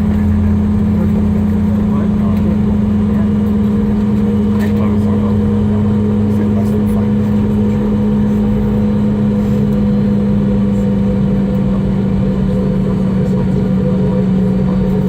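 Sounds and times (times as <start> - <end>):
jet engine low hum: 0.0 - 15.0.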